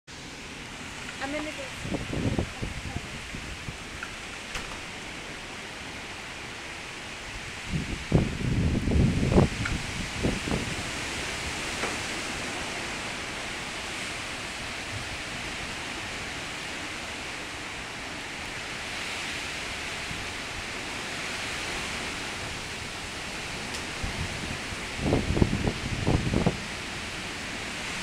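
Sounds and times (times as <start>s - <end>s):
heavy rain: 0.1s - 28.0s
wind: 0.1s - 28.0s.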